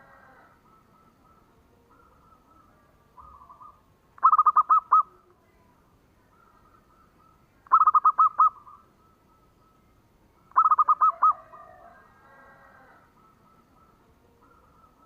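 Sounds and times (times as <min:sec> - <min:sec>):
dove cooing: 0:00.0 - 0:05.3, 0:06.3 - 0:09.8, 0:10.4 - 0:15.0.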